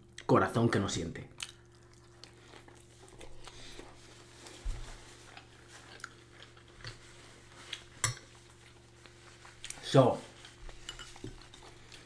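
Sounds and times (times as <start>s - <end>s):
person chewing food: 1.3s - 9.8s, 10.4s - 12.0s.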